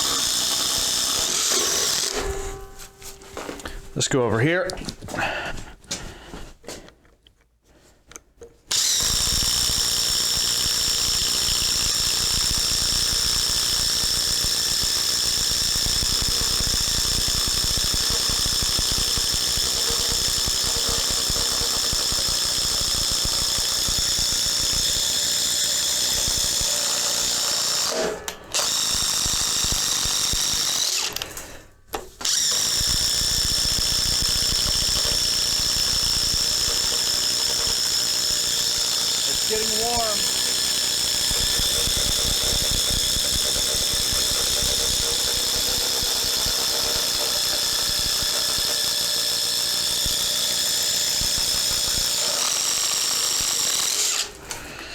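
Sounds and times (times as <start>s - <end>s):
impact driver hammering: 8.7s - 31.3s, 32.2s - 54.4s.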